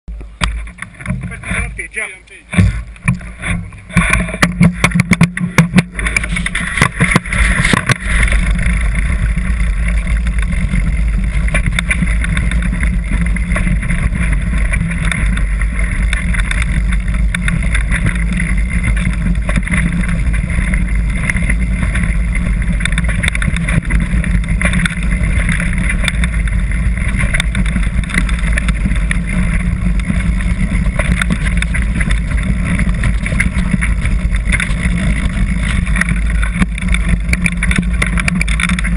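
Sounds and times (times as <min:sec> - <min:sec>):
bike clicks and knocks: 0:00.1 - 0:38.9
wind buffeting and trail rumble: 0:00.1 - 0:38.9.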